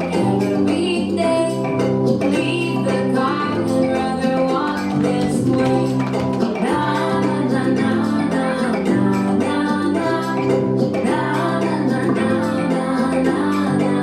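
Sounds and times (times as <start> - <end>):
woman singing over instrumental music: 0.0 - 14.0.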